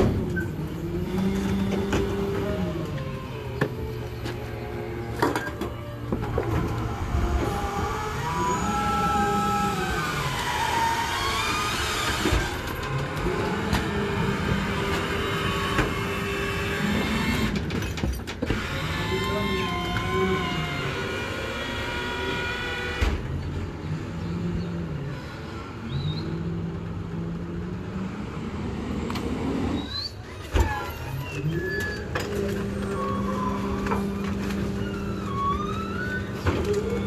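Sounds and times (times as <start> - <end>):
garbage truck hydraulic packer: 0.0 - 24.3, 28.5 - 37.0.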